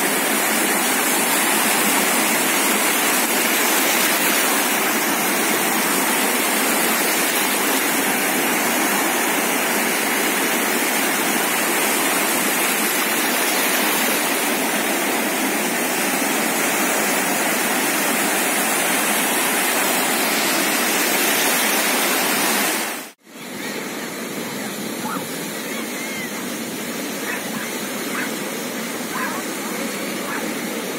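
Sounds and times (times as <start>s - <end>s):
sea waves washing on shore: 0.0s - 30.9s.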